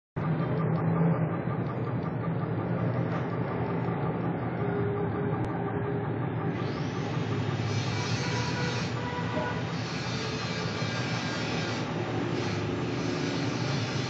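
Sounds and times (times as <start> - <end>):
shaker machine motor hum: 0.2 - 14.0.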